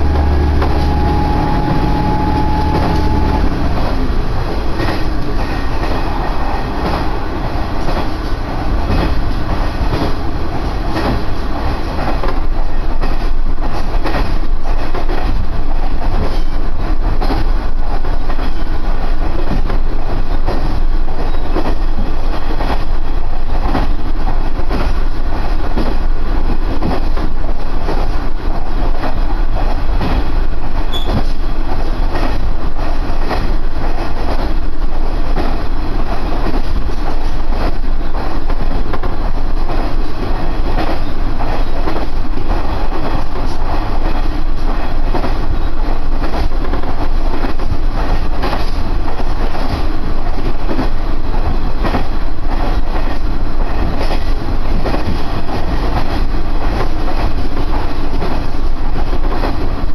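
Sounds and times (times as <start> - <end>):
wheels clicking over rail joints: 0.0 - 59.8
railcar engine and wheel noise: 0.0 - 59.9.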